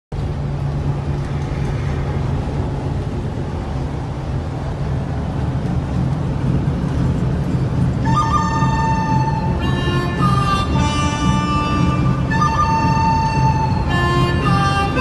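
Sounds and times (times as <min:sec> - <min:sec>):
road and tyre noise: 0:00.1 - 0:15.0
truck engine drone: 0:00.1 - 0:15.0.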